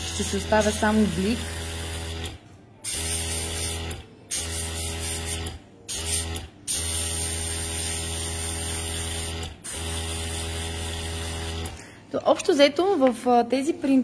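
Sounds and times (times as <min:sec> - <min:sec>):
compressor motor hum: 0:00.0 - 0:11.9.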